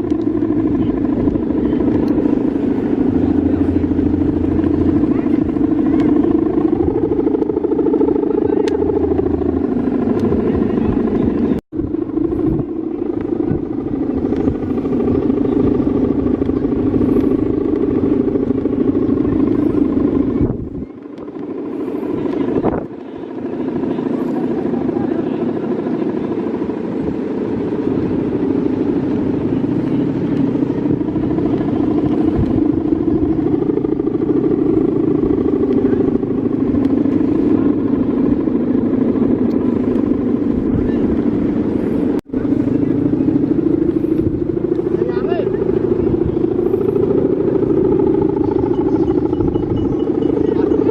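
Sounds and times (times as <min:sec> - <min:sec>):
kite hummer buzzing drone: 0:00.0 - 0:50.9
wind rumble on microphone: 0:00.0 - 0:50.9.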